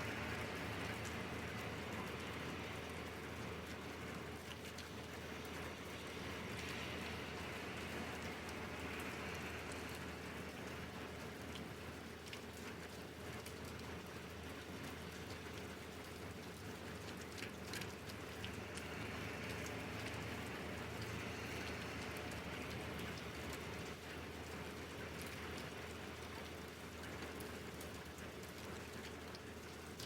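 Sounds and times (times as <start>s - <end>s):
raindrops ticking: 0.0s - 30.0s
steady rain falling: 0.0s - 30.0s.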